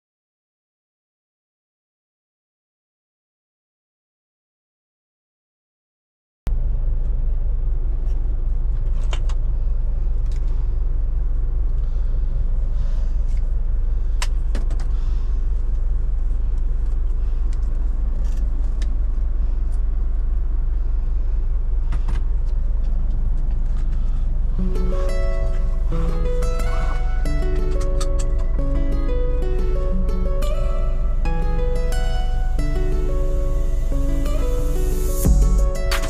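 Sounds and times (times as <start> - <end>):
diesel truck engine rumbling: 6.5 - 36.0.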